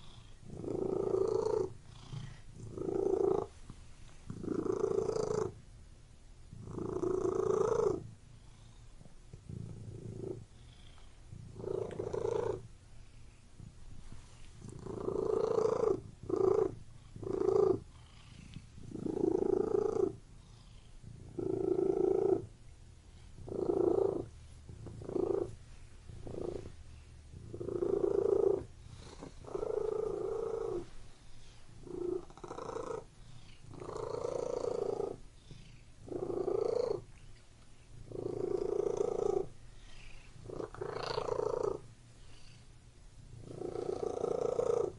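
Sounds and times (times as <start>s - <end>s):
cat purring: 0.0s - 5.7s, 6.5s - 44.9s.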